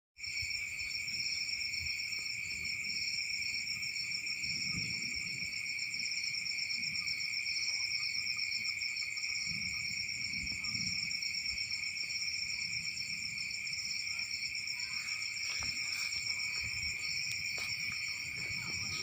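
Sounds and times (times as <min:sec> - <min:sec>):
insects trilling in chorus: 0:00.2 - 0:19.0.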